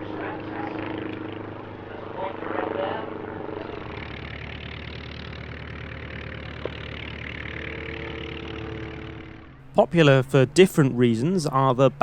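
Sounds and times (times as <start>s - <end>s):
aircraft engine running: 0.0s - 12.0s.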